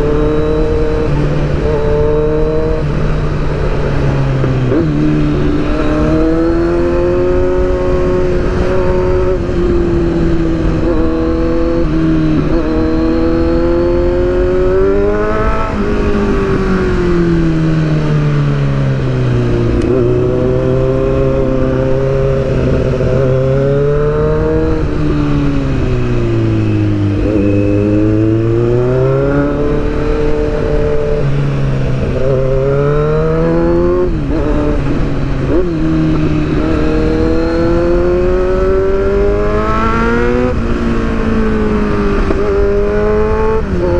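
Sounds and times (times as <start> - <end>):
motorcycle engine revving: 0.0 - 43.9
wind noise: 0.0 - 43.9.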